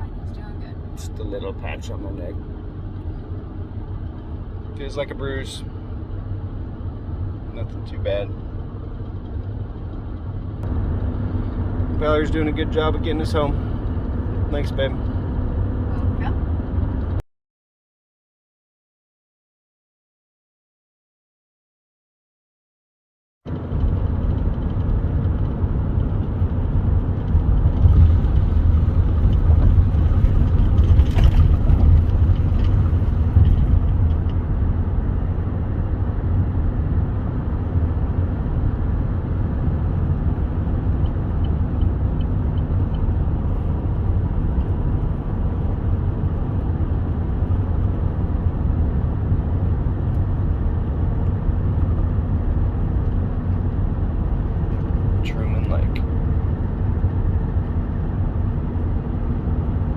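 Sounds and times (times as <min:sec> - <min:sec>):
road and engine rumble in car cabin: 0:00.0 - 0:17.2, 0:23.5 - 0:59.9.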